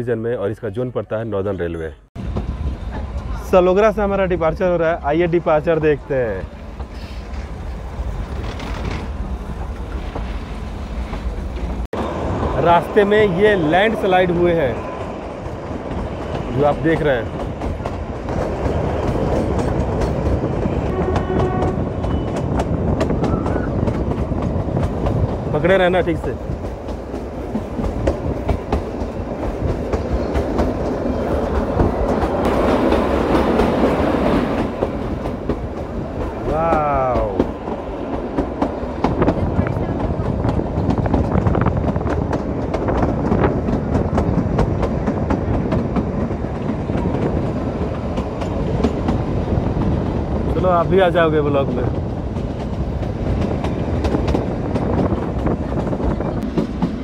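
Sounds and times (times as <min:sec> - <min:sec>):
train wheels clicking on rail joints: 0:06.4 - 0:11.8, 0:12.6 - 0:57.0.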